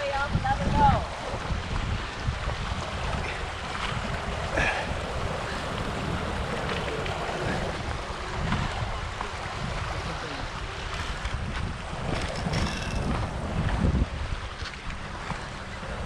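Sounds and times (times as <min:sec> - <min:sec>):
water rushing: 0:00.0 - 0:16.0
wind buffeting microphone: 0:00.0 - 0:16.0.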